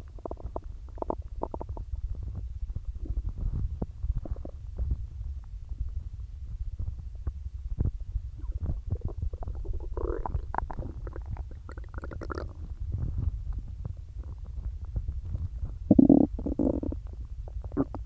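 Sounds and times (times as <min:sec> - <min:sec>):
stomach gurgling: 0:00.0 - 0:05.0, 0:07.2 - 0:18.0.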